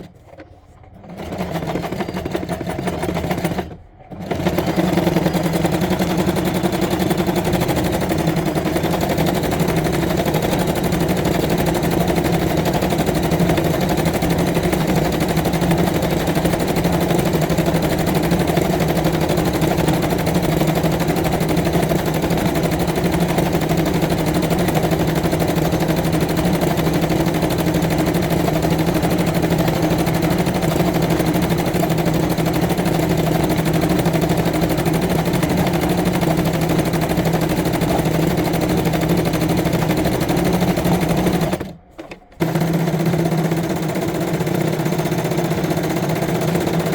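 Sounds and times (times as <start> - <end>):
sewing machine running: 0.0 - 46.9.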